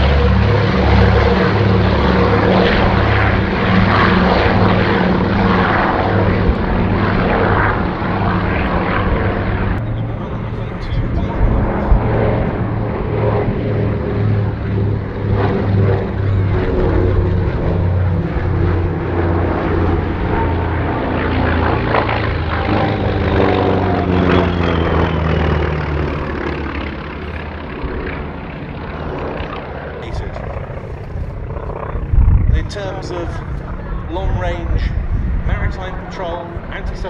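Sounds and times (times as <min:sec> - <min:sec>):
propeller plane engines droning: 0:00.0 - 0:37.0.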